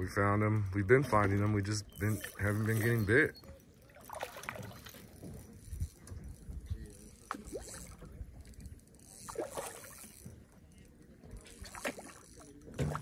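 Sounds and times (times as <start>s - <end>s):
water lapping and trickling: 0.2s - 13.0s.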